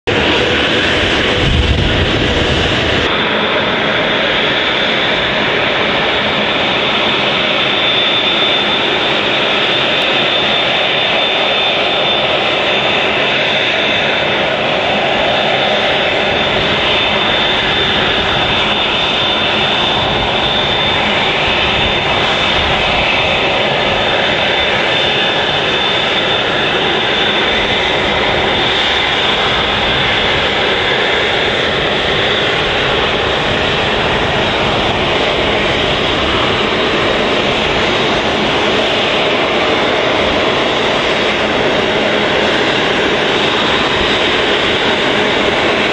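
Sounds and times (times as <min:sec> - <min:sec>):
jet engine rumble: 0:00.0 - 0:45.9.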